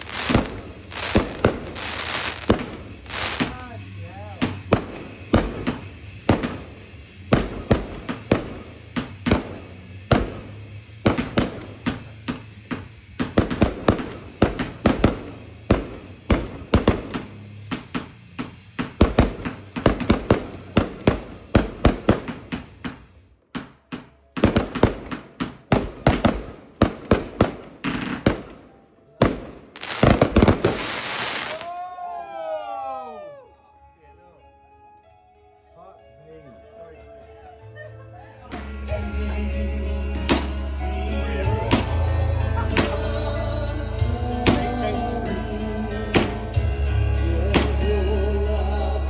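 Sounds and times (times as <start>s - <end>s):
firework bangs: 0.0s - 32.1s, 38.5s - 39.2s, 40.1s - 48.7s.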